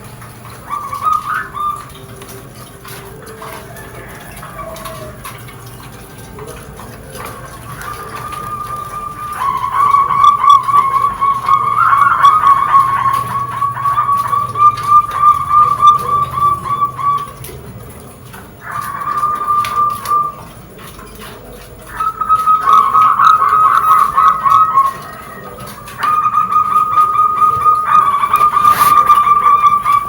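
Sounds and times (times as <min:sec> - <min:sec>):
bird calling in fast trills: 0:00.0 - 0:05.9, 0:06.6 - 0:20.6, 0:21.8 - 0:30.0.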